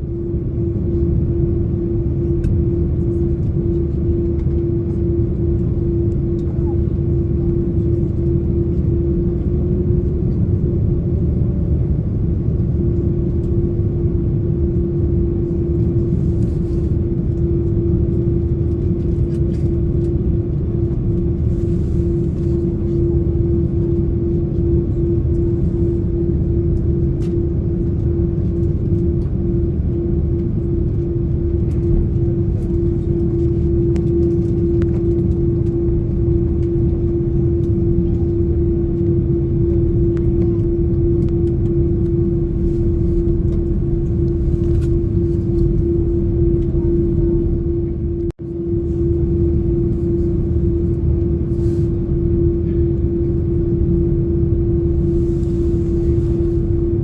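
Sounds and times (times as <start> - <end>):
airliner cabin low rumble: 0.0 - 57.0
constant humming tone: 0.0 - 57.0.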